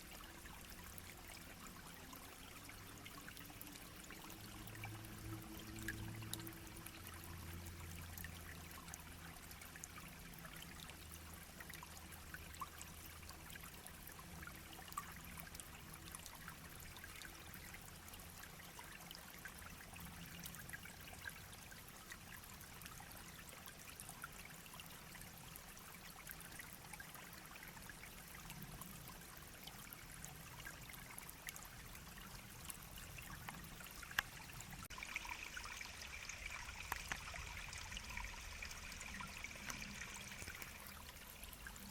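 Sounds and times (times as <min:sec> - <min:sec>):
brook babbling: 0:00.0 - 0:41.9.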